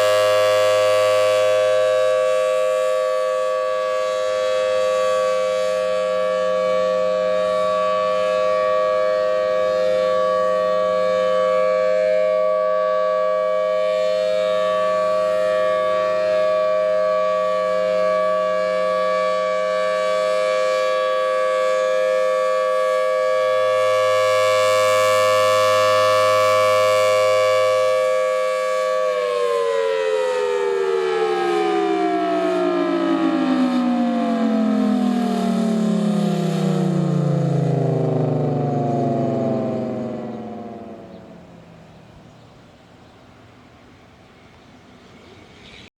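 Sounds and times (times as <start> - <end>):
warning siren winding down: 0.0 - 43.0.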